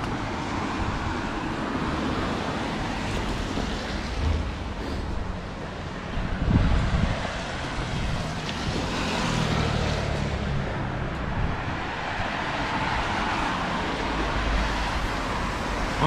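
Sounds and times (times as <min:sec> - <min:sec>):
cars passing on busy road: 0:00.0 - 0:16.0.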